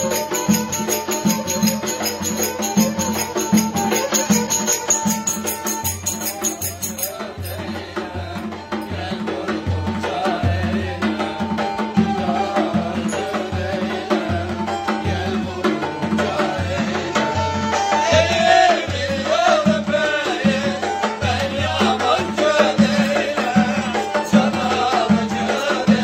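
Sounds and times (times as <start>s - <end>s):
drum beating steady rhythm: 0.0s - 26.0s.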